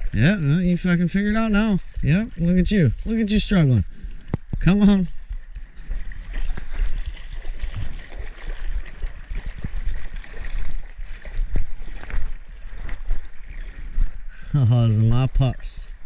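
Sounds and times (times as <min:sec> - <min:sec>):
creek water splashing from wading: 0:00.0 - 0:16.0.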